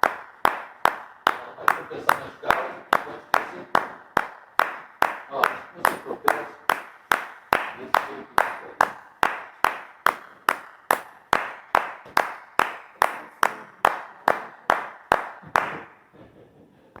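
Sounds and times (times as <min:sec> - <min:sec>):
person clapping hands: 0:00.0 - 0:16.1.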